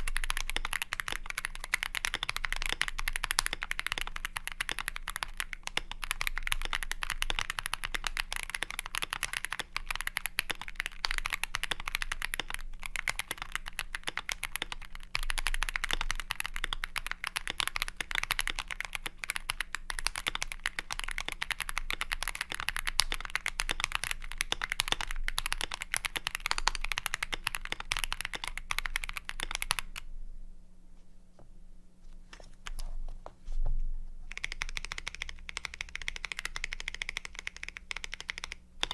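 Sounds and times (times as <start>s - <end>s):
fast typing on mechanical keyboard: 0.0s - 30.0s, 34.3s - 38.9s.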